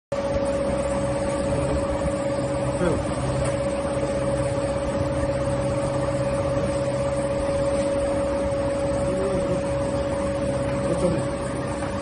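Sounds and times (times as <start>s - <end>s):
belt conveyor humming and whining: 0.1s - 12.0s.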